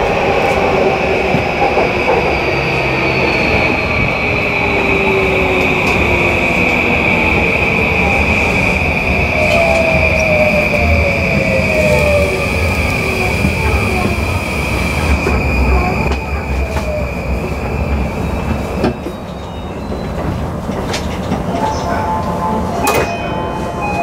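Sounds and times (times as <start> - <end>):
train high whine: 0.0 - 24.0
train low rumble: 0.0 - 24.0.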